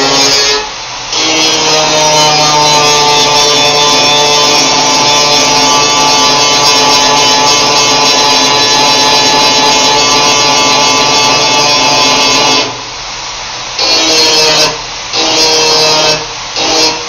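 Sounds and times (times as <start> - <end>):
power grinder on sheet metal: 0.0 - 12.8, 13.8 - 17.0.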